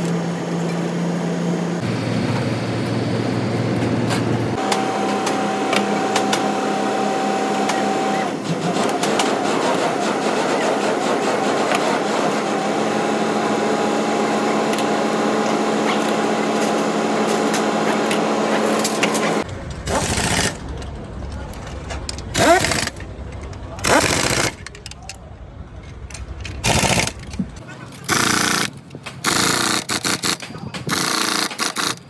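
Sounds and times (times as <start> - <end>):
workshop tool motor whining: 0.0 - 20.8, 22.2 - 24.7, 26.5 - 32.0.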